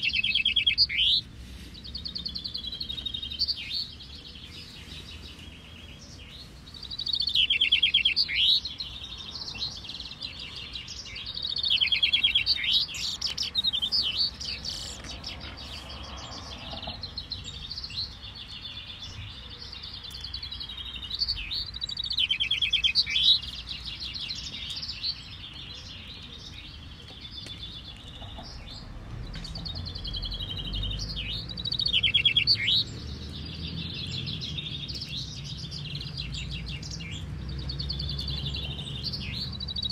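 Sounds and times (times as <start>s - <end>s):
chaffinches singing trills: 0.0s - 39.9s.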